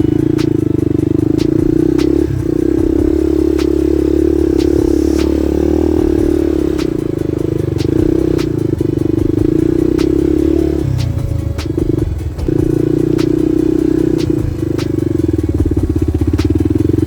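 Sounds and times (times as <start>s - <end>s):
motorcycle engine running: 0.0s - 17.0s
sharp clicks and rattles: 0.0s - 17.0s.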